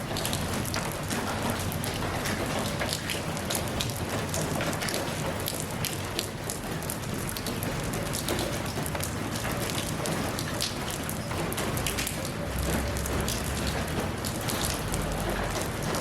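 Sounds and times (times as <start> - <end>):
rain on a hard surface: 0.0 - 16.0.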